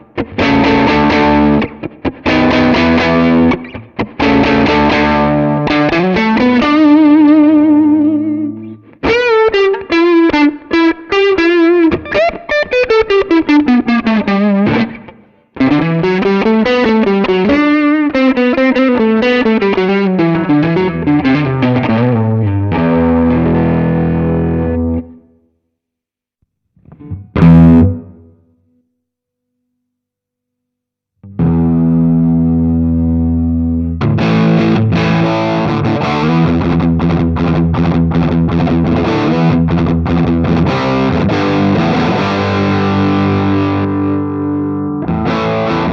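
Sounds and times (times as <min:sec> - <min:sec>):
distorted electric guitar: 0:00.0 - 0:25.4, 0:26.8 - 0:28.5, 0:31.2 - 0:45.9.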